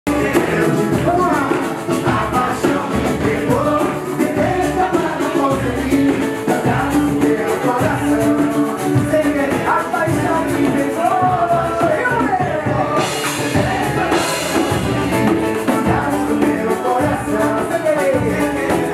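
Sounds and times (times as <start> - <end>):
keyboard: 0.0 - 18.9
acoustic guitar: 0.1 - 18.9
hand drum: 0.1 - 18.9
shaker percussion: 0.1 - 18.9
small four-string guitar: 0.1 - 18.9.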